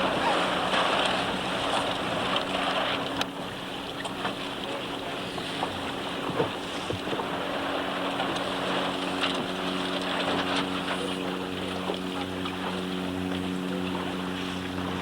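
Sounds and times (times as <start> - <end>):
motorboat engine running: 0.0 - 15.0
water rushing past hull: 0.0 - 15.0.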